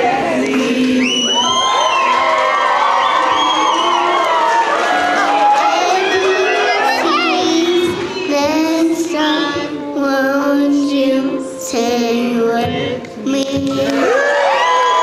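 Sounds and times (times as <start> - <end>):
music with sung vocals: 0.0 - 14.4.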